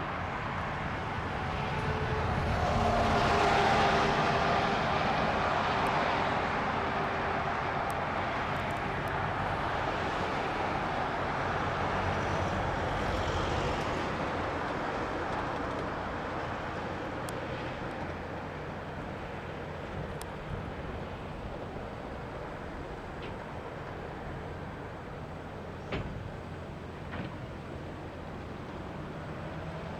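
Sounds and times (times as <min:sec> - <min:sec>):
passing vehicle rumbling: 0:00.0 - 0:29.9.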